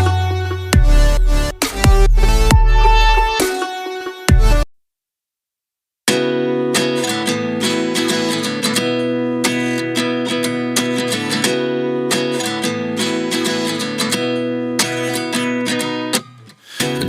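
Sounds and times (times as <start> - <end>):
guitar instrumental: 0.0 - 4.7, 6.1 - 17.0.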